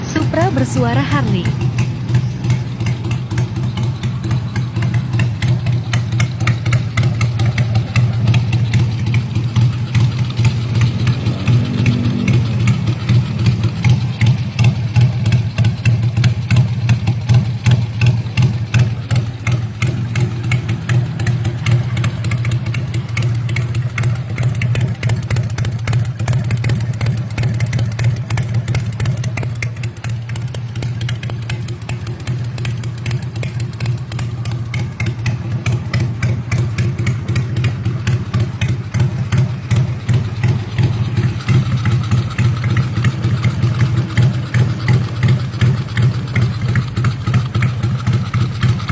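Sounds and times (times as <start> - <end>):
motorcycle engine idling loudly: 0.0 - 48.9.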